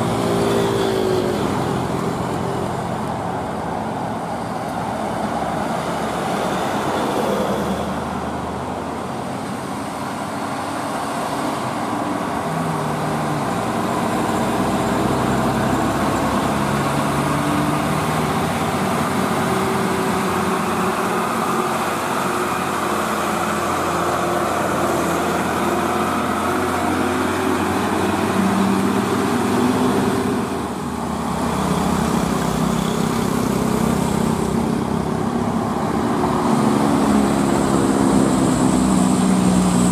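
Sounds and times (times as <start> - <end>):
diesel truck engine climbing: 0.0 - 39.9.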